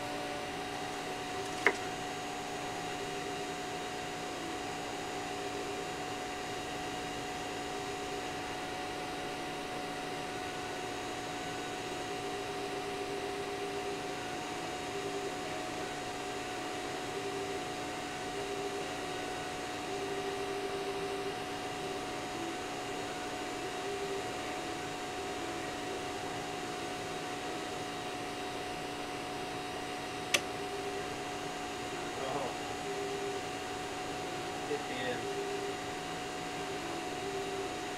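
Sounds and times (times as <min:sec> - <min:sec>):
cooling fan hum: 0:00.0 - 0:37.9.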